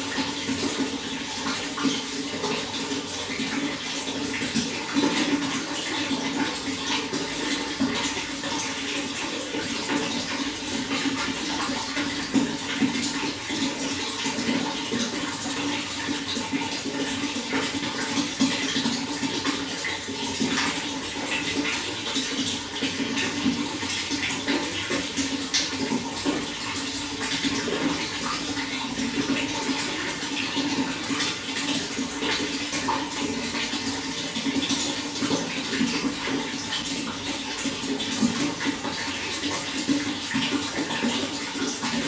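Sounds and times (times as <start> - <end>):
running water splashing: 0.0 - 42.0.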